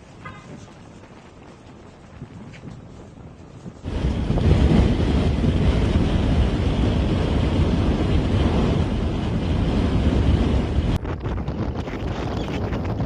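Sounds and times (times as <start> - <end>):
gusty blizzard wind: 0.0 - 13.0.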